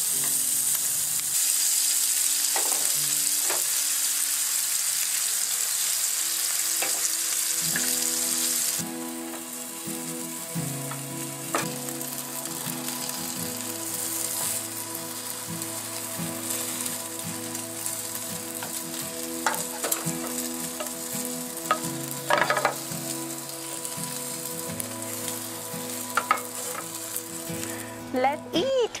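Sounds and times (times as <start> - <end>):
batter sizzling in a skillet: 0.0 - 27.8.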